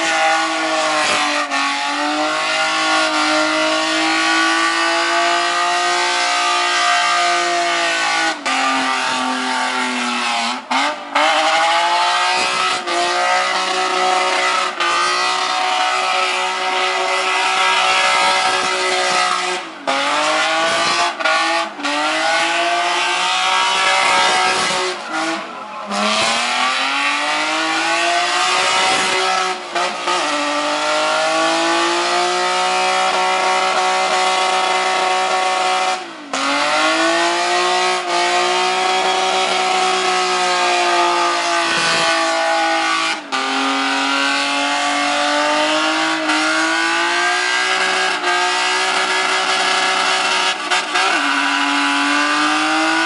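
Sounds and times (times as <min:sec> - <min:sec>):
car engine at high revs: 0:00.0 - 0:53.0.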